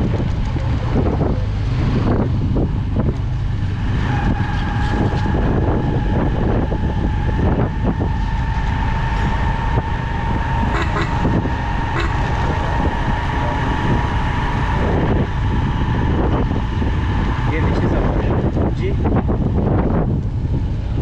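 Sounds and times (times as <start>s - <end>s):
motorcycle engine drone: 0.0s - 21.0s
steady whine: 0.0s - 21.0s
wind noise on microphone: 0.0s - 21.0s.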